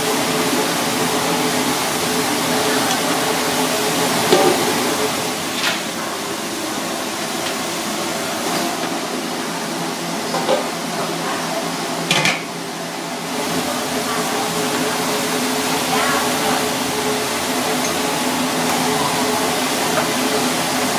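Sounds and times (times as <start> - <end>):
steady noisy hum: 0.0 - 20.9.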